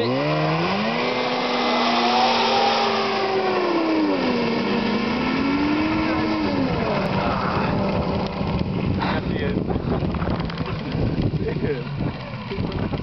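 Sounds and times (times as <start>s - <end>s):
snowmobile engine driving away: 0.0s - 13.0s.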